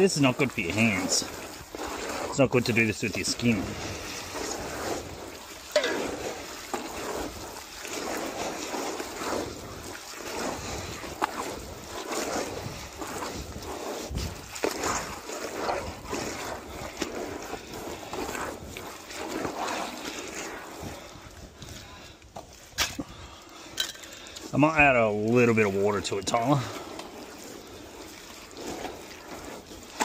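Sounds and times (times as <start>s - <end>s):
wet concrete squelching: 0.0s - 30.0s.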